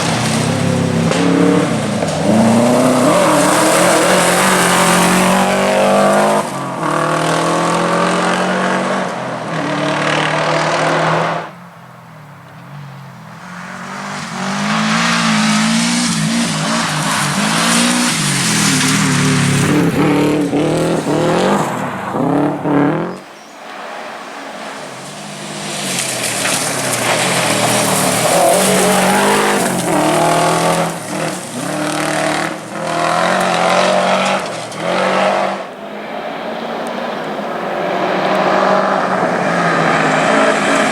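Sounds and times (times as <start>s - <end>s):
rally car engine revving: 0.0s - 11.8s, 12.4s - 23.3s, 24.7s - 40.9s.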